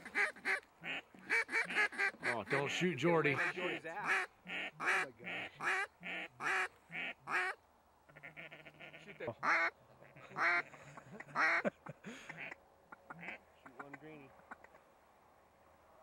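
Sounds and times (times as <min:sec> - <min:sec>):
duck call feed chatter: 0:00.0 - 0:11.6, 0:12.2 - 0:14.7
duck call quacks: 0:00.0 - 0:11.6, 0:12.2 - 0:14.7.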